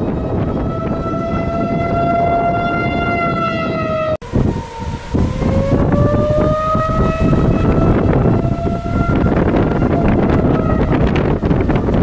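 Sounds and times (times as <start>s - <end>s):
warning siren wailing: 0.0s - 12.0s
wind gusting on microphone: 0.0s - 12.0s.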